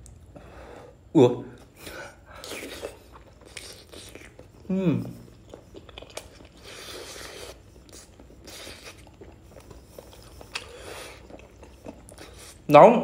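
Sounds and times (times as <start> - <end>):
wet chewing sounds: 1.6 - 12.7.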